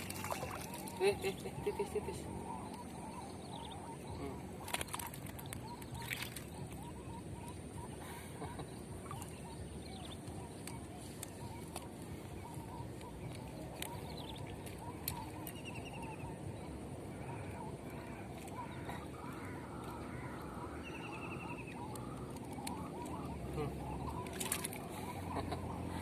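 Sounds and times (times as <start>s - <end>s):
birds chirping: 0.0s - 26.0s
low outdoor background noise: 0.0s - 26.0s.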